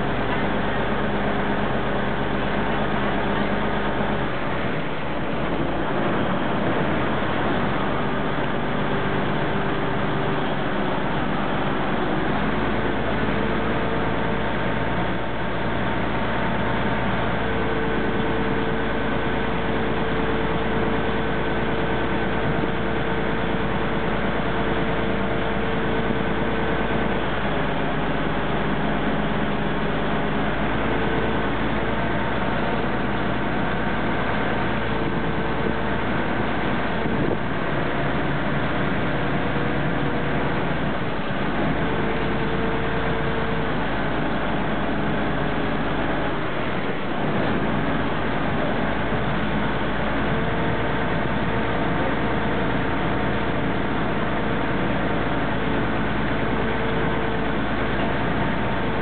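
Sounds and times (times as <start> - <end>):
boat engine running: 0.0 - 59.0
water rushing along hull: 0.0 - 59.0.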